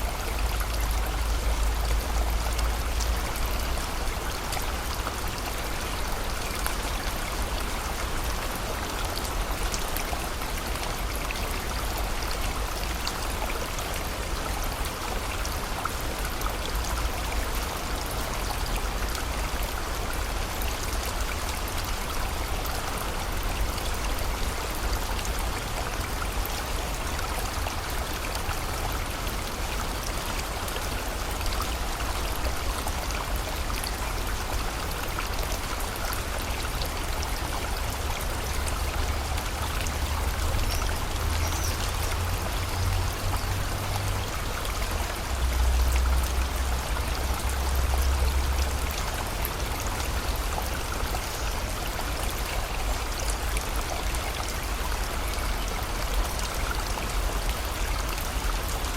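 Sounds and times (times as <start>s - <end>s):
river flowing: 0.0s - 58.9s
steady rain falling: 0.0s - 58.9s.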